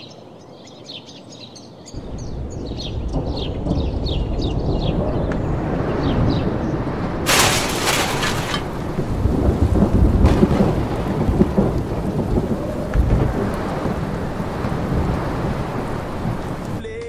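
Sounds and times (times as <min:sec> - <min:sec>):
rain: 0:01.9 - 0:16.8
thunder rumbling: 0:02.0 - 0:16.8.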